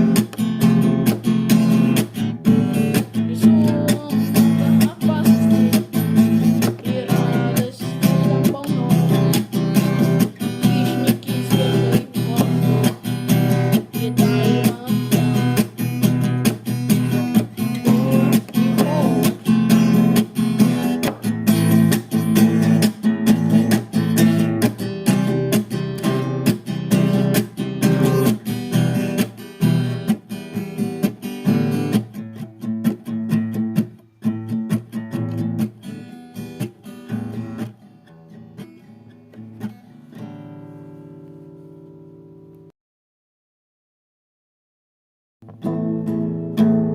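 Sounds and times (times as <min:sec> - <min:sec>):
acoustic guitar strumming: 0:00.0 - 0:42.6, 0:45.4 - 0:46.9.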